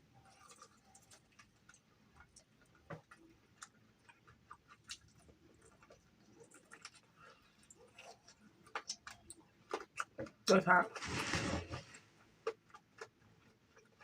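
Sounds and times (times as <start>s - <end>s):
chewing crispy fried chicken: 0.0s - 14.0s.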